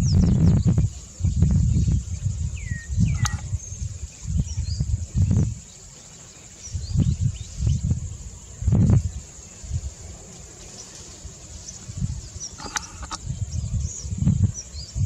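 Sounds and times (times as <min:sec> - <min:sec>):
bird chirps: 0:00.0 - 0:09.6, 0:10.4 - 0:15.0
high insect drone: 0:00.0 - 0:15.0.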